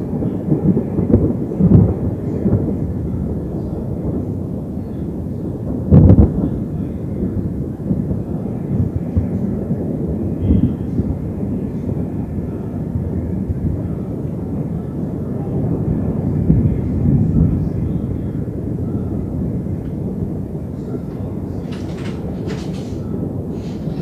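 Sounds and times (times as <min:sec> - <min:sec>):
low rolling thunder: 0:00.0 - 0:24.0.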